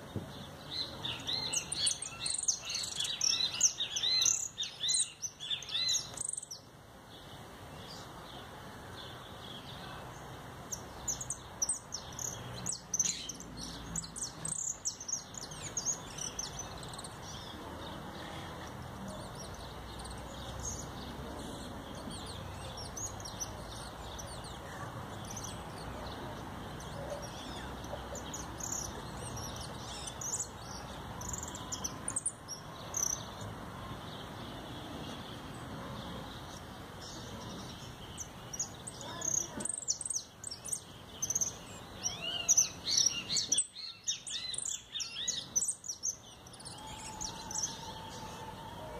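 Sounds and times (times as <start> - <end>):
finch chirping song: 0.0 - 48.9
steady background hiss: 0.0 - 48.9.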